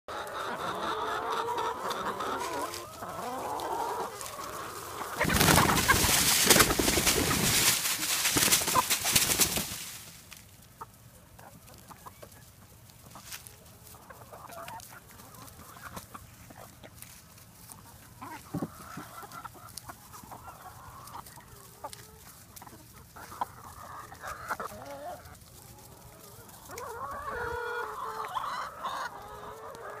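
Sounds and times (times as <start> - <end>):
hens clucking and calling: 0.1 - 30.0.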